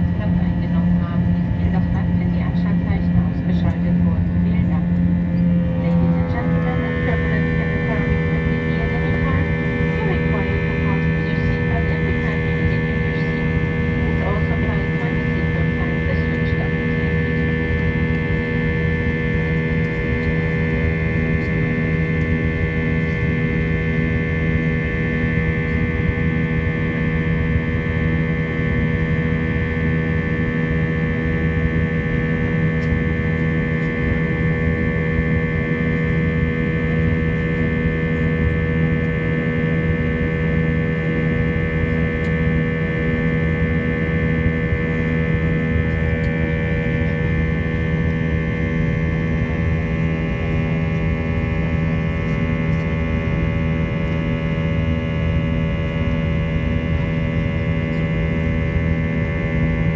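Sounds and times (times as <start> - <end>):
jet engines droning in cabin: 0.0 - 59.9.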